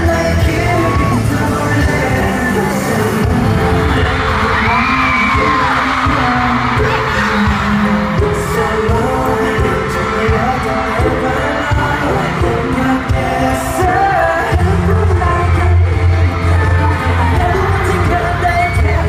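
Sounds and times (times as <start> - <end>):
male vocals: 0.0 - 19.0
thumping pop beat and backing music: 0.0 - 19.0.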